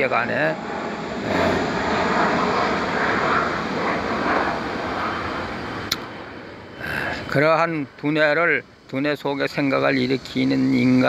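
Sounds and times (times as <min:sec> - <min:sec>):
airplane engine rushing: 0:00.0 - 0:11.0.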